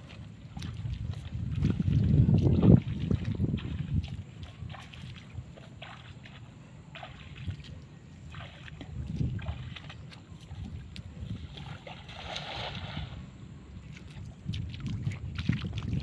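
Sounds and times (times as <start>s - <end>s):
footsteps wading through shallow water: 0.0s - 16.0s.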